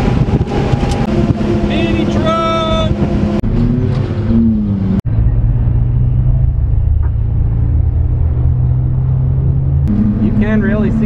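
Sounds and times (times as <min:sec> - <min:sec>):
road noise: 0:00.0 - 0:11.0
vehicle engine: 0:00.0 - 0:11.0.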